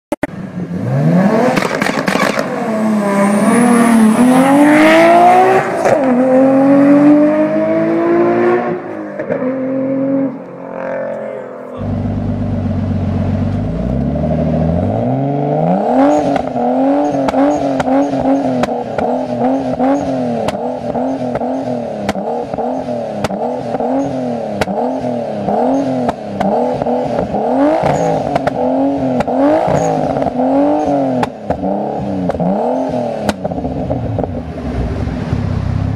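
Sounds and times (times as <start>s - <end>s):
car engine accelerating hard: 0.3s - 35.9s
car engine revving and blipping: 0.3s - 35.9s.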